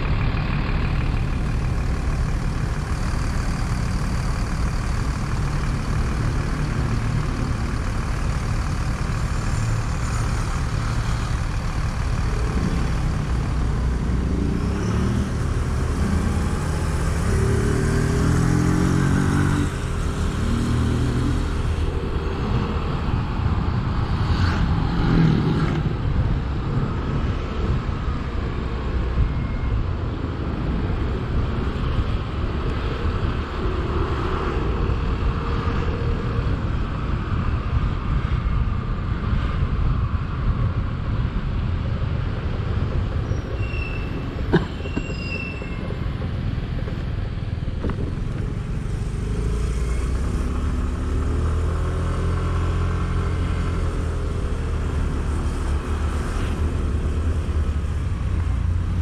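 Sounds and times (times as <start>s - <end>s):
rushing wind: 0.0s - 59.0s.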